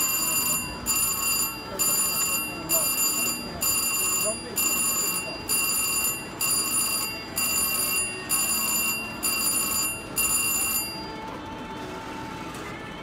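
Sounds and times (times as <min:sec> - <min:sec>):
slot machine electronic bell: 0:00.0 - 0:11.5.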